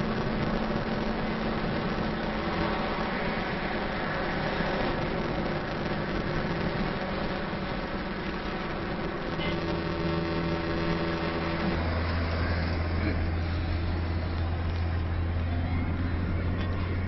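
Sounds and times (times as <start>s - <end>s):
low engine hum: 0.0s - 17.0s
road and wind noise: 0.0s - 17.0s.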